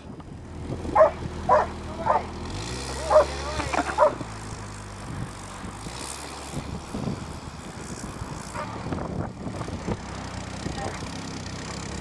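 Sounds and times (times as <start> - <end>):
small engine running: 0.2 - 12.0.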